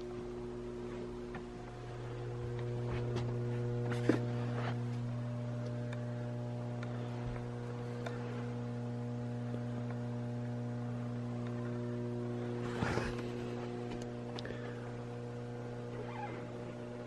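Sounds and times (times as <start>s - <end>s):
mains electrical hum: 0.0s - 17.0s.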